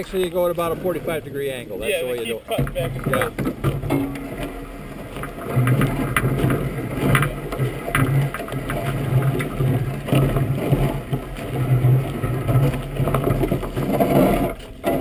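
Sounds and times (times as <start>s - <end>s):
runners scraping over ice: 0.0s - 15.0s
sharp knocks from hull: 2.5s - 15.0s.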